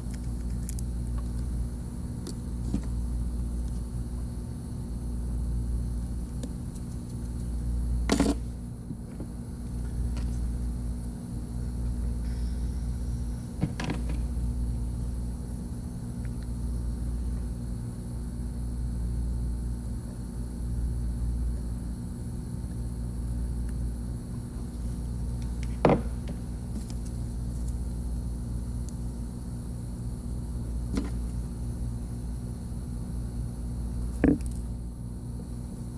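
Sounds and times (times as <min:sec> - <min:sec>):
low hum of bench equipment: 0:00.0 - 0:35.9.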